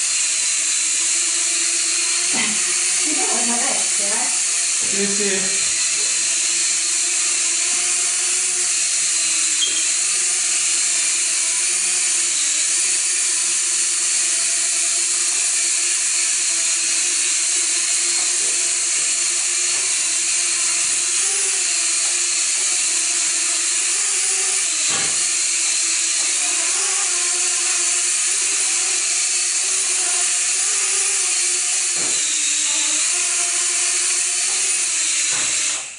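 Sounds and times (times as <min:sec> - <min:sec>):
quadcopter propellers buzzing: 0:00.0 - 0:35.9.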